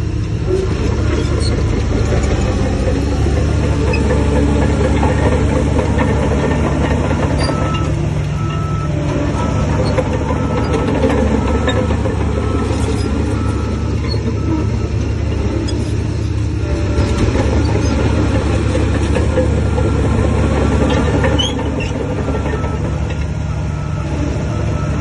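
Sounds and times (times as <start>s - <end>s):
heavy diesel engine droning: 0.0s - 25.0s.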